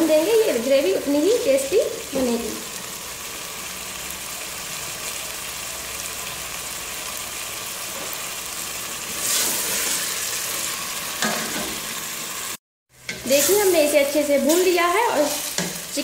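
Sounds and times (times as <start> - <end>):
food sizzling in pot: 0.0 - 16.0.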